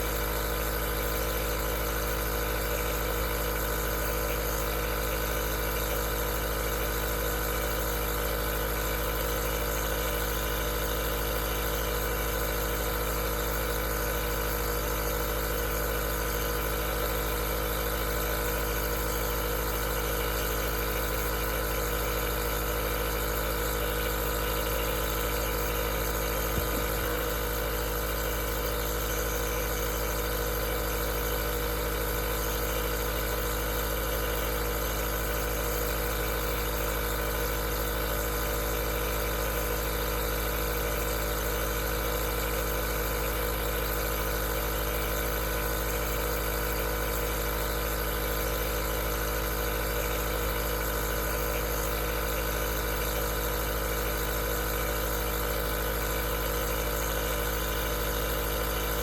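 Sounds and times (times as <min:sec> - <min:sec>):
compressor motor hum: 0:00.0 - 0:59.0.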